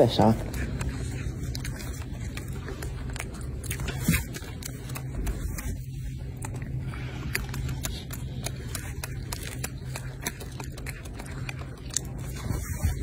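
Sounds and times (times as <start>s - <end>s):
monkey chewing fruit: 0.0s - 13.0s
steady low hum: 0.0s - 13.0s.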